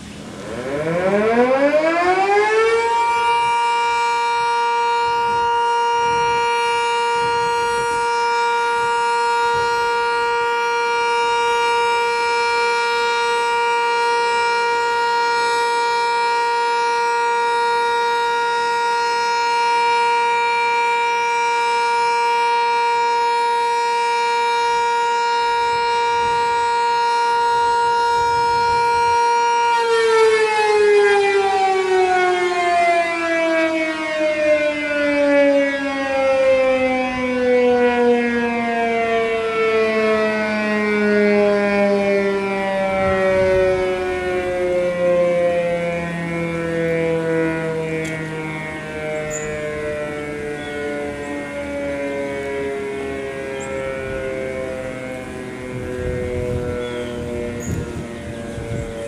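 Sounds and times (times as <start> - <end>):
warning siren two-tone note: 0.0 - 59.0.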